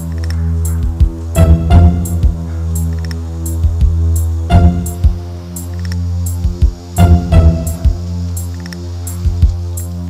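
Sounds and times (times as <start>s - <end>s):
music with deep bass and drums: 0.0s - 10.0s.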